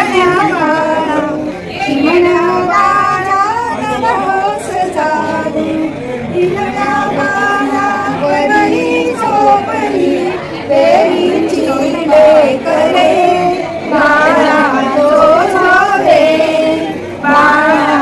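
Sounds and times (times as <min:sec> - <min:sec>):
women singing a lullaby: 0:00.0 - 0:18.0.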